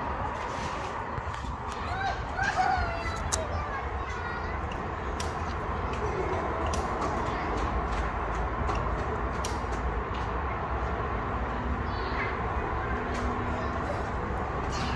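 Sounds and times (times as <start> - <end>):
low rumble of street noise: 0.0 - 14.9.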